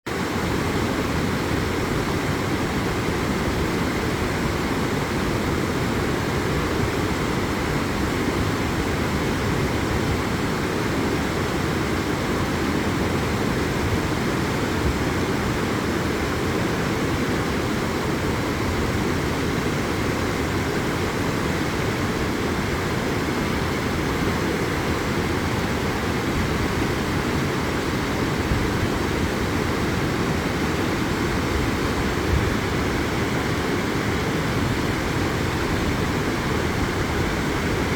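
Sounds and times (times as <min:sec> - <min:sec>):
waterfall roaring: 0:00.1 - 0:37.9.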